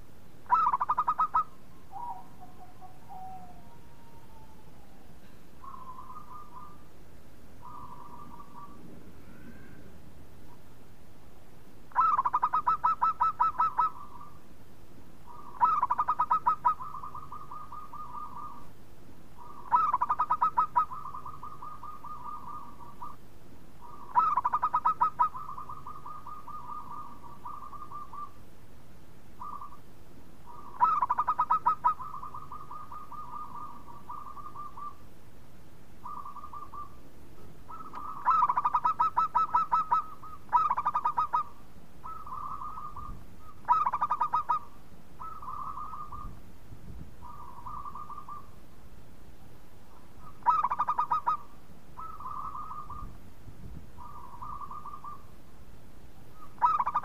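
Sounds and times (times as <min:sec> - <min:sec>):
dove cooing: 0:00.4 - 0:06.9, 0:07.6 - 0:10.6, 0:11.9 - 0:14.4, 0:15.2 - 0:18.7, 0:19.4 - 0:23.2, 0:23.8 - 0:28.4, 0:29.4 - 0:29.8, 0:30.4 - 0:35.0, 0:36.0 - 0:46.4, 0:47.2 - 0:48.6, 0:49.9 - 0:53.2, 0:54.0 - 0:55.4, 0:56.4 - 0:57.0.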